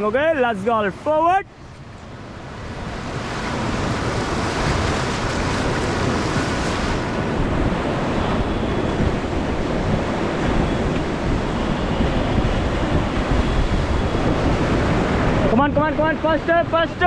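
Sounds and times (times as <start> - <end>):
wind noise on microphone: 1.8 - 17.0
whitewater rushing: 2.3 - 17.0.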